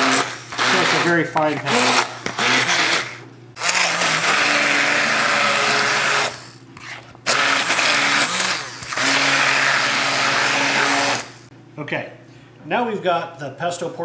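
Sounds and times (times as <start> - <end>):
immersion blender motor running: 0.0 - 11.5.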